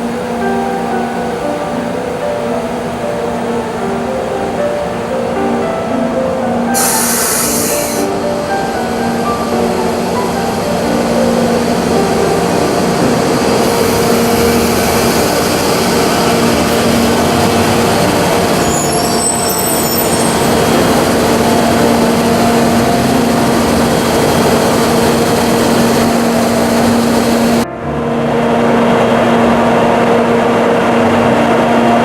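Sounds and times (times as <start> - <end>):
faint high tones: 0.0 - 29.7
electric locomotive blowers humming: 0.0 - 32.0.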